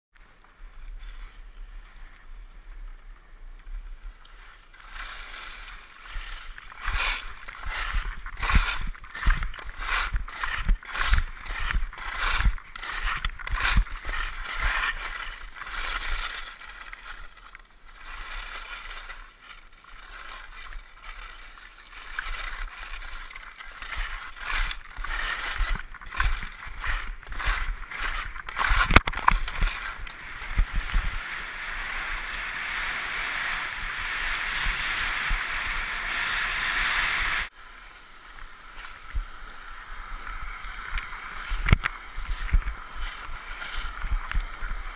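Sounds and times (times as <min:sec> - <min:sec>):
rush of skis and wind: 0:00.2 - 0:44.9
skis scraping on snow: 0:00.2 - 0:44.9.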